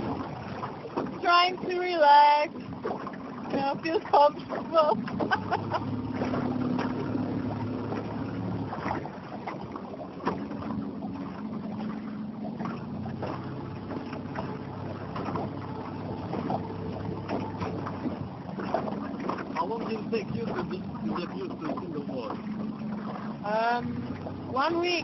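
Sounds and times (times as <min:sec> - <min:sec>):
motorboat engine humming: 0:00.0 - 0:25.0
water slapping against hull: 0:00.0 - 0:25.0.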